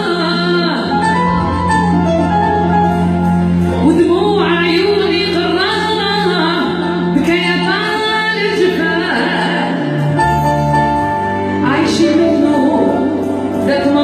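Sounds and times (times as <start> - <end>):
song with singing voice: 0.0 - 14.0.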